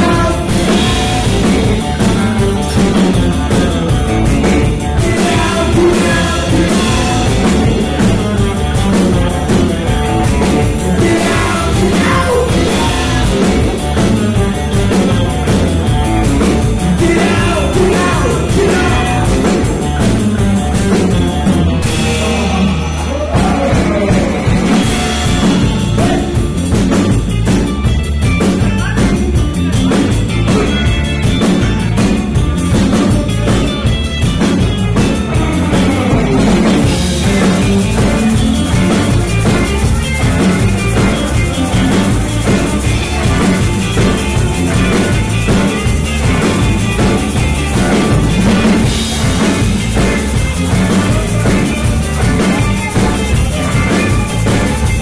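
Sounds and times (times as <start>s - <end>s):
person singing: 0.0s - 3.0s, 4.3s - 15.6s, 16.4s - 26.6s, 35.0s - 55.0s
live rock band playing: 0.0s - 55.0s.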